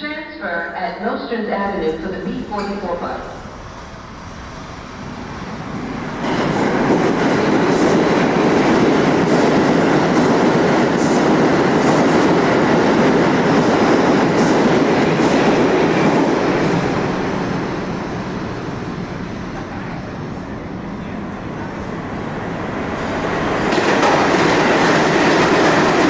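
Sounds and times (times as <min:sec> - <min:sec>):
subway train running on tracks: 0:00.0 - 0:26.0.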